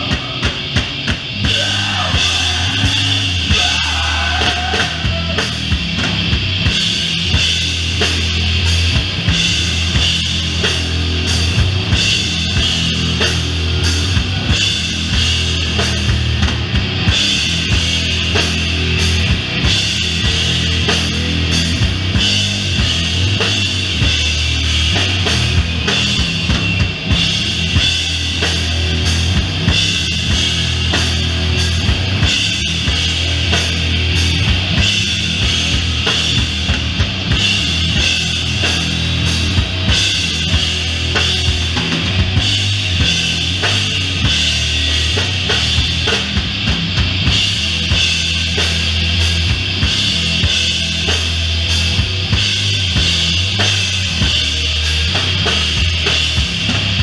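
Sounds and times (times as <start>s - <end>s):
heavy metal guitar riff: 0.0s - 57.0s.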